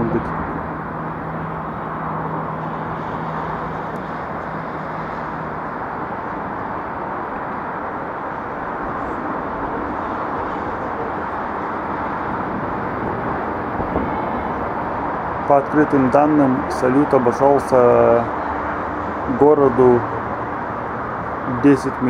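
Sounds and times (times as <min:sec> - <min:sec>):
low hum: 0:00.0 - 0:22.0
outdoor background noise: 0:00.0 - 0:22.0.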